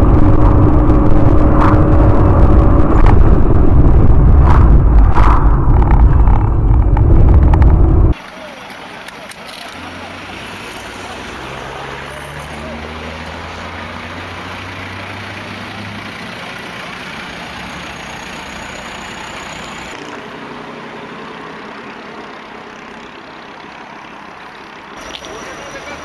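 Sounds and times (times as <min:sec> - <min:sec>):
road noise: 0:00.0 - 0:26.0
vehicle engine hum: 0:00.0 - 0:26.0.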